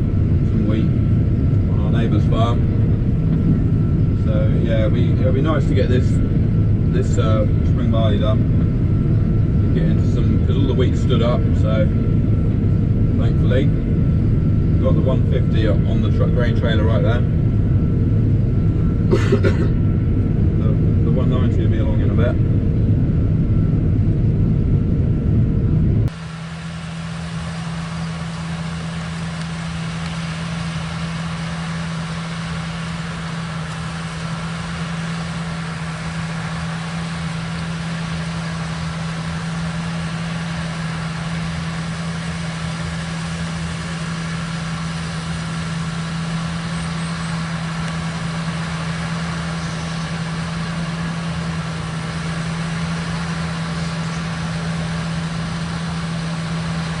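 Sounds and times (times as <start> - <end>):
combine harvester humming and hissing: 0.0 - 57.0
loud low rumble: 0.0 - 57.0.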